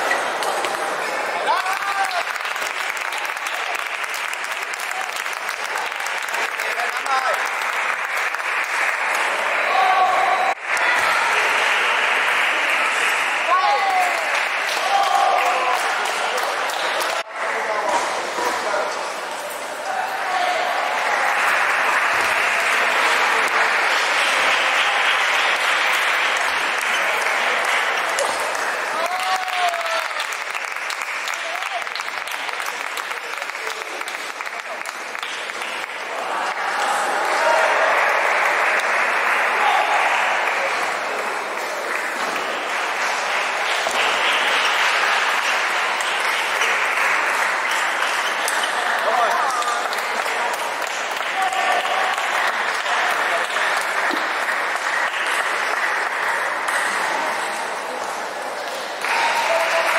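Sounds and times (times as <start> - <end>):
crowd noise: 0.0 - 59.9
table tennis hall din: 0.0 - 59.9.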